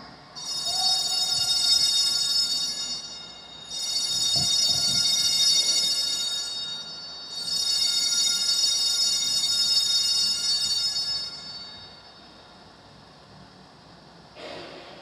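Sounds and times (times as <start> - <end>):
altar bells ringing: 0.4 - 12.6.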